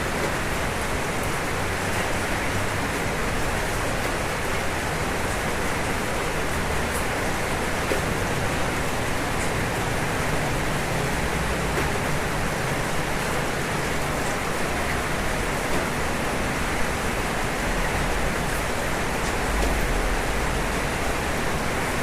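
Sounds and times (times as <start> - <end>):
rain on a roof: 0.0 - 22.0.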